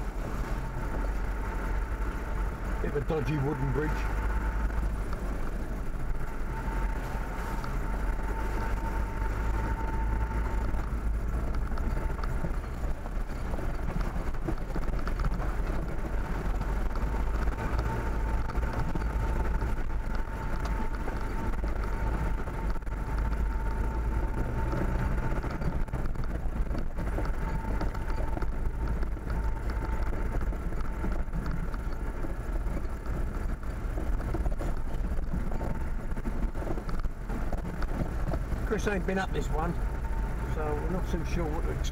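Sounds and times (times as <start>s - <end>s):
engine and road rumble: 0.0s - 41.9s.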